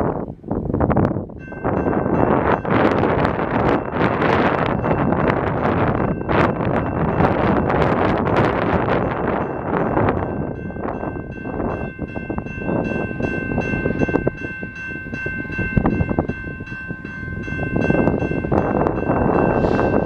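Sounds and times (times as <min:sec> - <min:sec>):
wind buffeting microphone: 0:00.0 - 0:20.0
level crossing warning bell ringing: 0:01.3 - 0:20.0.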